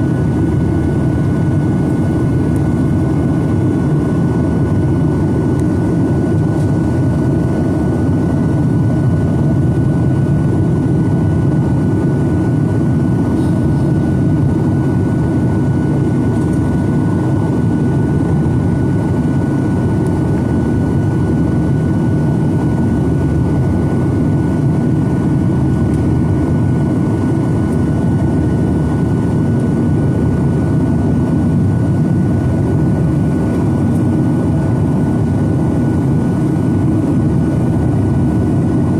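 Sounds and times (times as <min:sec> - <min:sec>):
jet engine roar in cabin: 0:00.0 - 0:38.9.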